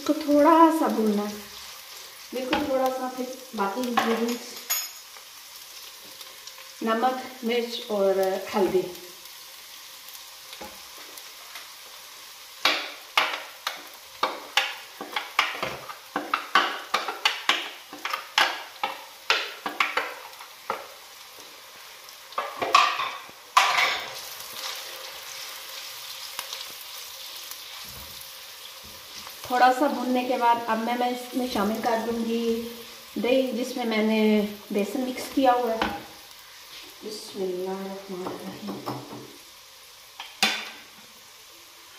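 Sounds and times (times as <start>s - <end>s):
food sizzling in oil: 0.0s - 41.9s.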